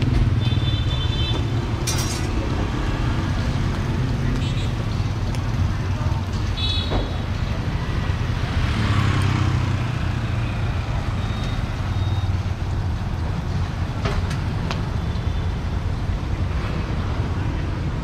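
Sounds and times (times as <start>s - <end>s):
traffic engines running: 0.0s - 18.0s.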